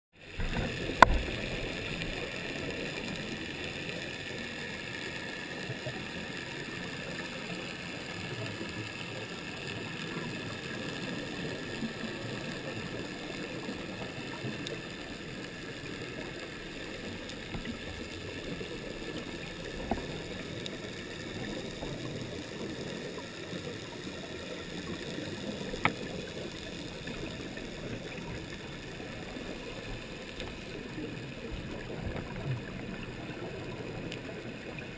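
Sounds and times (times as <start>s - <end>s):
muffled underwater noise: 0.2s - 34.9s.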